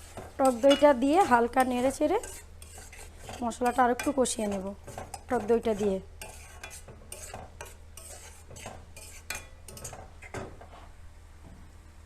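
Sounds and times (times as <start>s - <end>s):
utensil scraping a pan: 0.0s - 10.9s.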